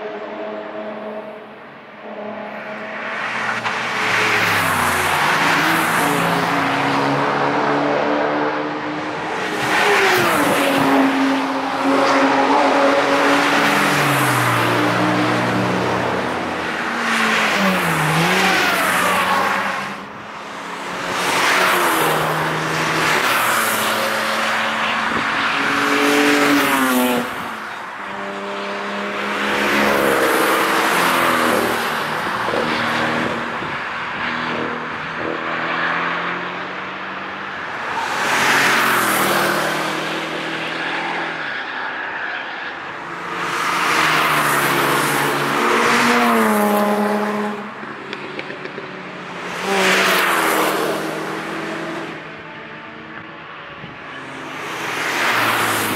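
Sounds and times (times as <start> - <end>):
cars passing at speed: 0.0 - 55.9
engines revving and changing gear: 2.2 - 41.8, 42.4 - 55.9.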